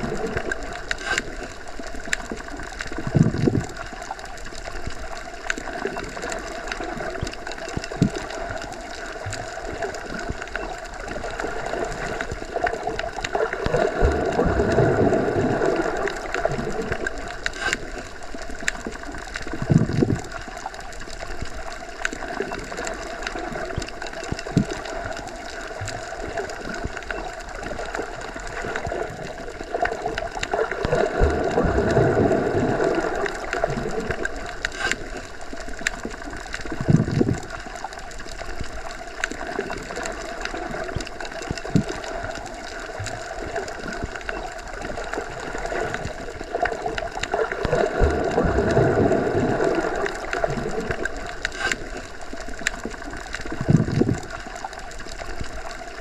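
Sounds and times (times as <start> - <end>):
muffled underwater wash: 0.0 - 56.0.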